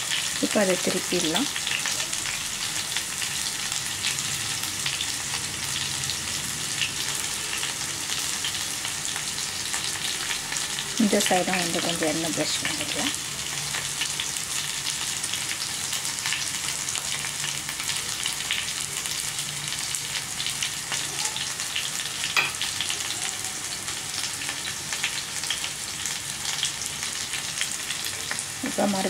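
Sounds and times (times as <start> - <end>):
chicken sizzling in oil: 0.0 - 29.0.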